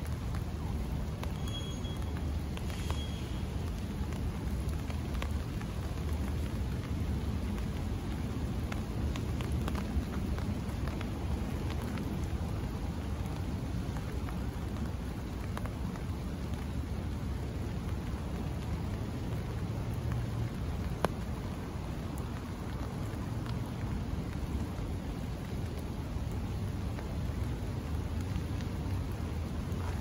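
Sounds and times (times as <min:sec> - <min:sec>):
raindrops tapping on umbrella: 0:00.0 - 0:30.0.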